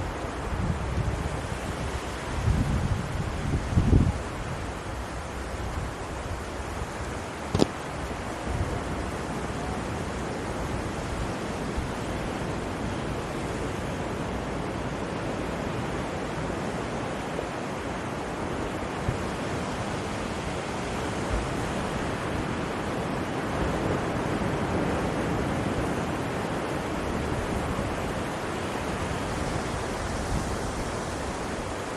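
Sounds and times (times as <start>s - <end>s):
sea surf breaking on beach: 0.0s - 31.9s.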